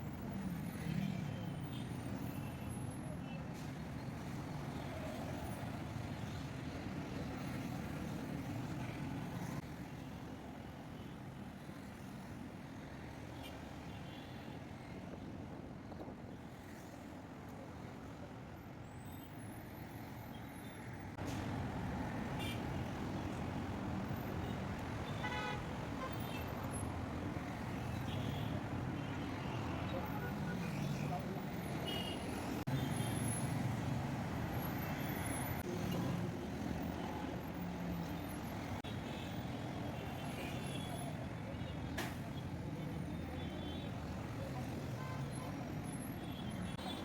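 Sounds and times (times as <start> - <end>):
road traffic engines: 0.0 - 47.0.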